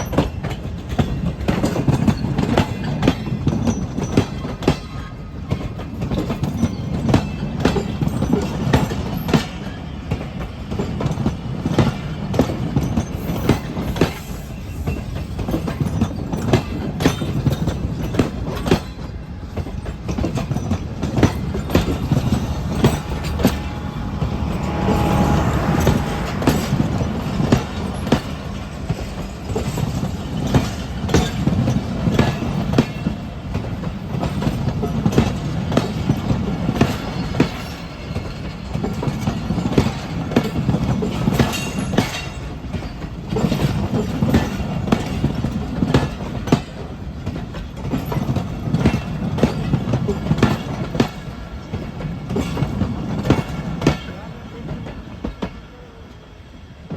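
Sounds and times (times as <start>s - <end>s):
train running gear rumble: 0.0s - 56.9s
wheels clacking on rails: 0.0s - 56.9s.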